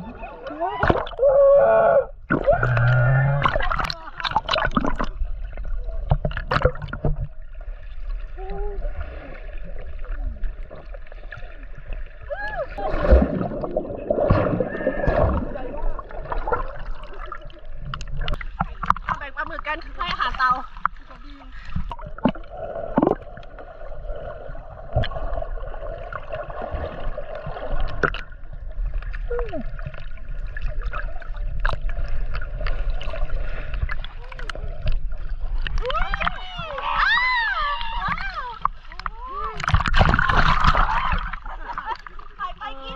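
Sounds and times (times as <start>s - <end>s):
water sloshing and gurgling: 0.0s - 42.9s.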